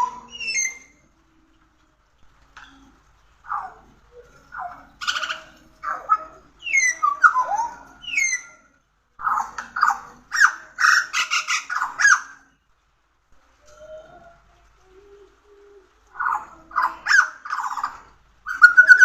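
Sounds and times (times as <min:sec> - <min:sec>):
bird singing: 0:00.0 - 0:01.4, 0:02.6 - 0:12.7, 0:13.6 - 0:19.0.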